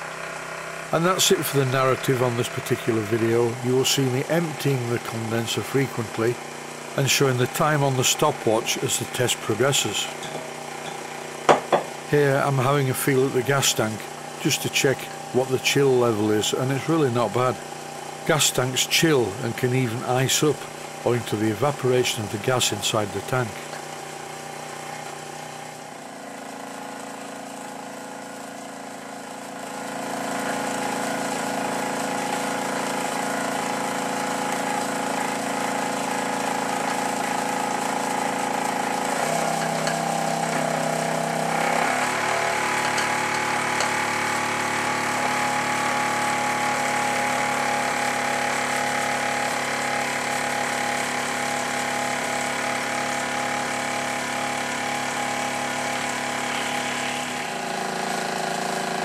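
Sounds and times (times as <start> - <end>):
model steam engine running: 0.1 - 59.0.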